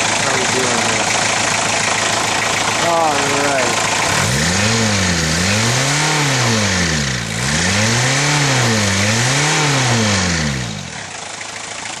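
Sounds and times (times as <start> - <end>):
diesel engine revving: 0.0 - 11.4.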